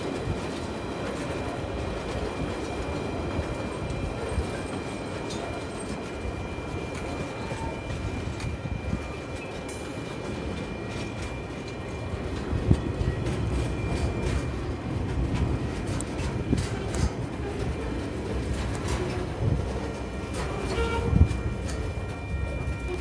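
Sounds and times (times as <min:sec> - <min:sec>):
train wagons rumbling past: 0:00.0 - 0:23.0.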